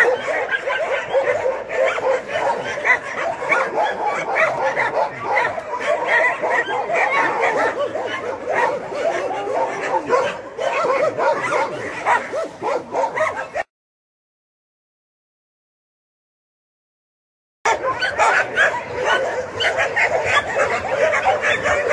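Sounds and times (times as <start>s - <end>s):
many dogs barking: 0.0s - 13.7s, 17.7s - 21.9s.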